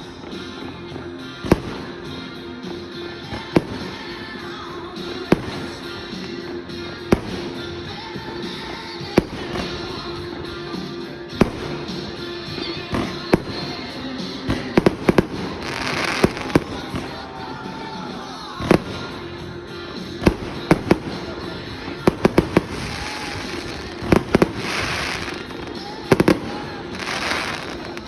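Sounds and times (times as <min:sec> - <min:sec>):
hissing crackle of fireworks: 0:00.0 - 0:28.0
fireworks bangs: 0:01.4 - 0:28.0.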